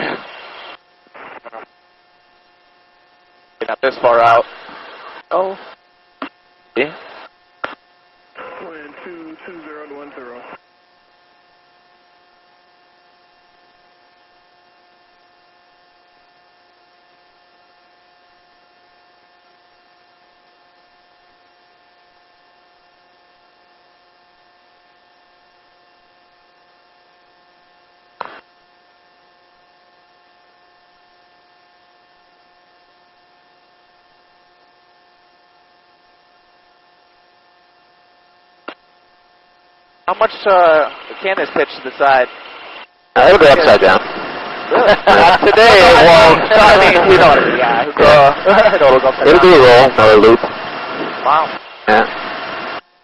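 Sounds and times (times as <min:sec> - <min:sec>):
electrical hum and hiss: 0:00.0 - 0:53.0.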